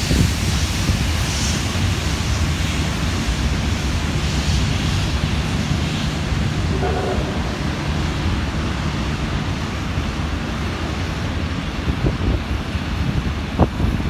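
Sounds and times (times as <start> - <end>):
train wheels rumbling on rails: 0.0 - 14.0
wind on microphone: 0.0 - 14.0.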